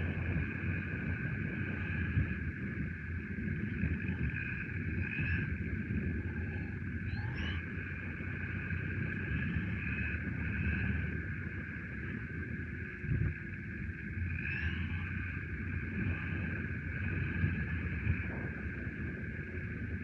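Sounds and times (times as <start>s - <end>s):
high electric motor whine: 0.0s - 20.0s
tyres and drivetrain rumble: 0.0s - 20.0s.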